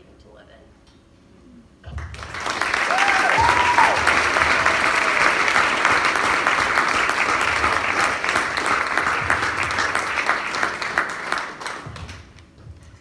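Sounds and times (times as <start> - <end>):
audience applauding: 2.0 - 12.4.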